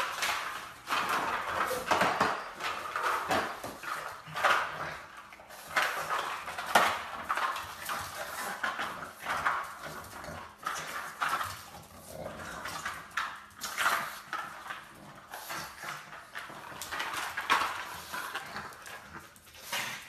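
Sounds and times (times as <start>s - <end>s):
dog claws clicking on wood floor: 0.0s - 20.0s.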